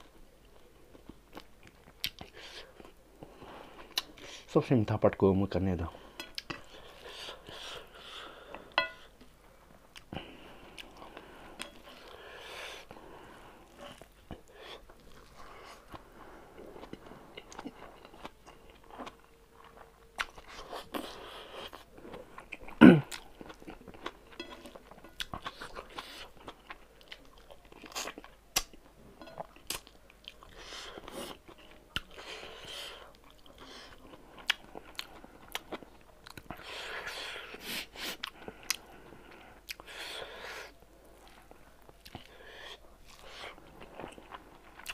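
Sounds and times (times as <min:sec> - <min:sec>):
wet chewing and mouth sounds: 0:00.0 - 0:04.5, 0:06.2 - 0:44.9.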